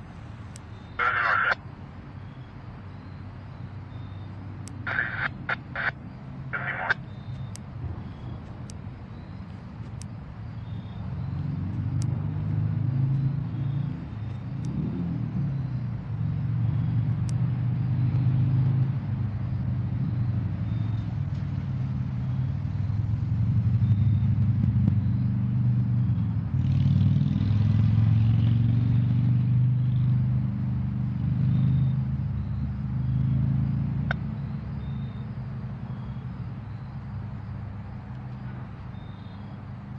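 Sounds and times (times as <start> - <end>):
diesel locomotives passing: 0.0 - 39.9.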